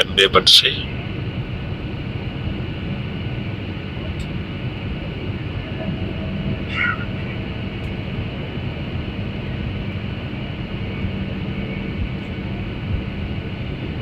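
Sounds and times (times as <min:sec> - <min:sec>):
airliner engine drone: 0:00.0 - 0:14.0.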